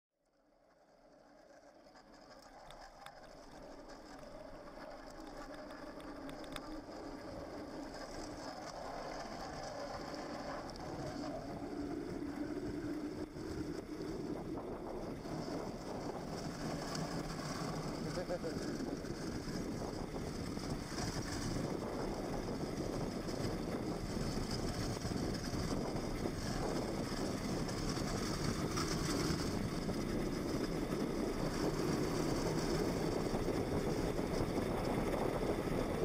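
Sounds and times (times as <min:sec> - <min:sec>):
go-kart rolling on asphalt: 0:00.2 - 0:36.0.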